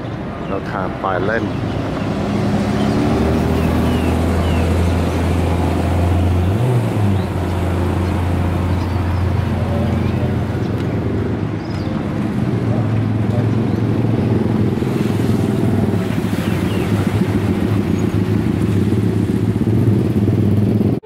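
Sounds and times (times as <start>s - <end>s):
road and wind noise: 0.0s - 21.0s
vehicle engine droning: 0.0s - 21.0s.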